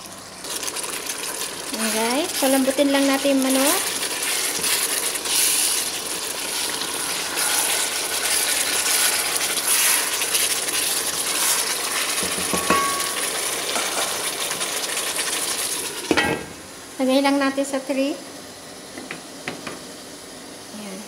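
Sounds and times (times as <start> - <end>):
chicken sizzling in sauce: 0.0 - 21.0.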